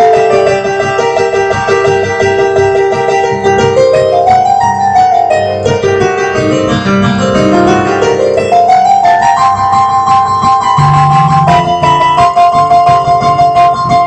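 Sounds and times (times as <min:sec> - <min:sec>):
electronic keyboard piano solo: 0:00.0 - 0:14.0.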